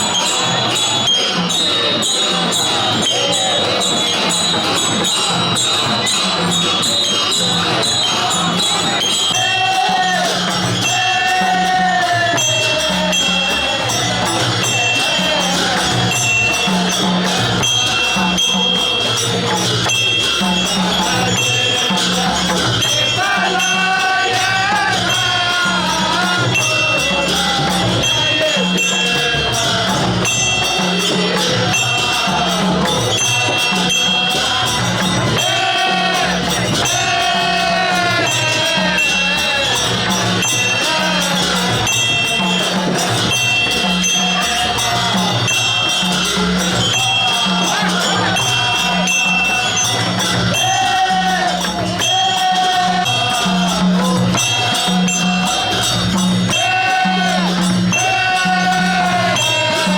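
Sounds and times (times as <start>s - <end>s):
drums beating a steady rhythm: 0.0s - 59.9s
ringing cymbals: 0.0s - 59.9s.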